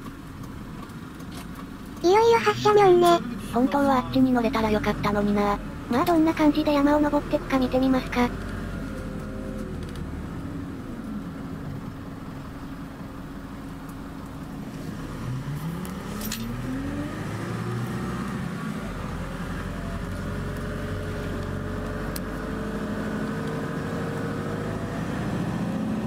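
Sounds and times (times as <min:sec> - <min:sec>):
bus engine accelerating: 0:00.0 - 0:26.0.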